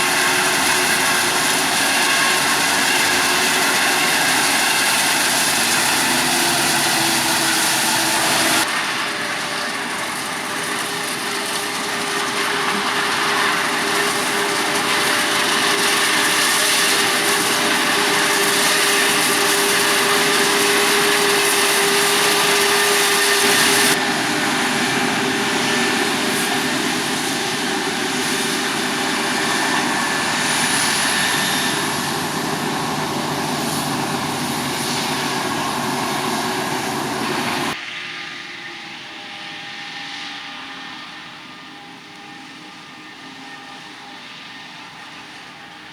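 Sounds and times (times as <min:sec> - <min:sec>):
heavy farm machinery running: 0:00.0 - 0:45.9.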